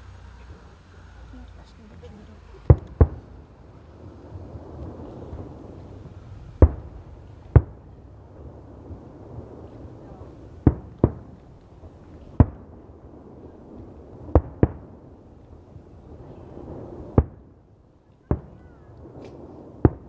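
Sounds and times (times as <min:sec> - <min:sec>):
fireworks bangs: 0:00.0 - 0:20.0
low background murmur: 0:00.0 - 0:20.0.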